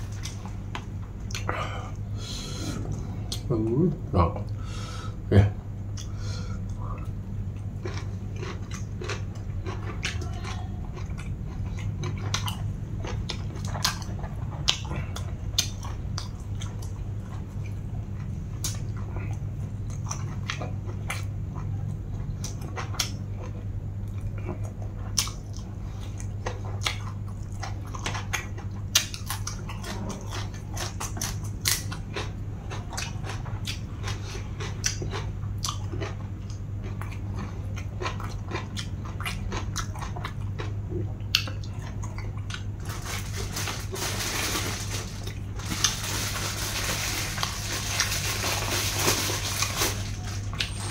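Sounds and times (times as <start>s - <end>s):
close chewing and crunching: 0.0s - 2.0s, 5.9s - 50.9s
steady low hum: 0.0s - 50.9s.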